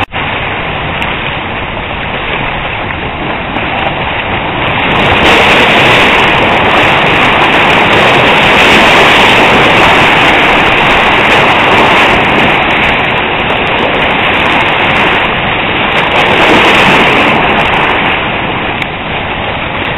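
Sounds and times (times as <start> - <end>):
rough sea rushing: 0.0 - 19.9
wind: 0.0 - 19.9.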